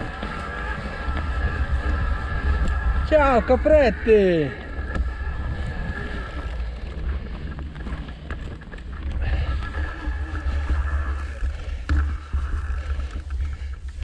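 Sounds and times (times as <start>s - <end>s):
bicycle rolling and rattling: 0.0s - 14.0s
wind buffeting microphone: 0.0s - 14.0s.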